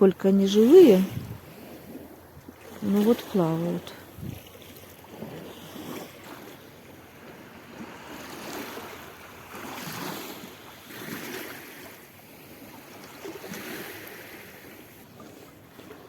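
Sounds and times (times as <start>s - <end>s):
waves washing against stones: 0.1s - 15.0s.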